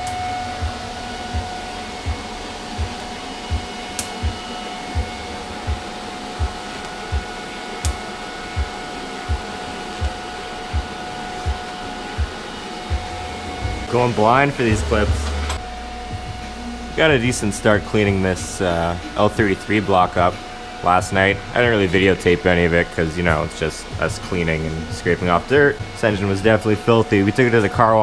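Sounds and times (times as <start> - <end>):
slow background music: 0.0 - 28.0
welding arc hissing: 0.0 - 28.0.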